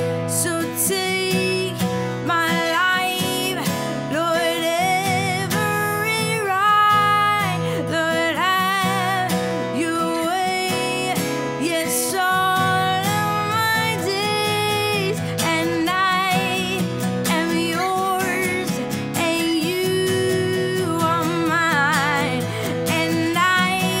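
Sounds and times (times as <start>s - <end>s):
acoustic guitar strumming: 0.0s - 24.0s
woman singing: 0.0s - 24.0s.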